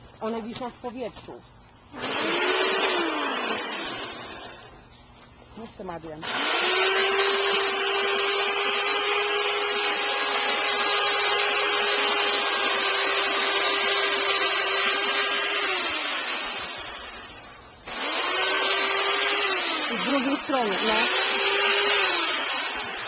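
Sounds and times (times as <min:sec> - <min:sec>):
electric hedge trimmer motor: 0:02.0 - 0:04.8, 0:06.2 - 0:23.0.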